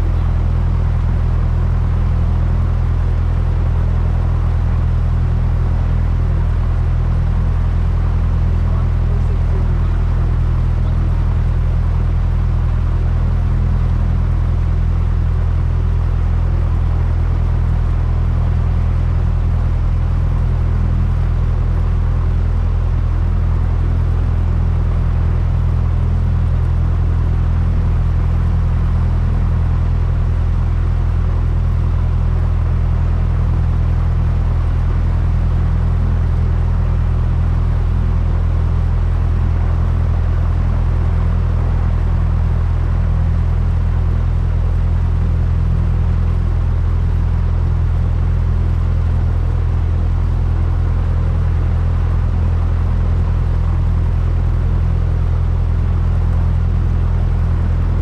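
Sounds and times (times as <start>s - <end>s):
light aircraft engine drone: 0.0s - 58.0s.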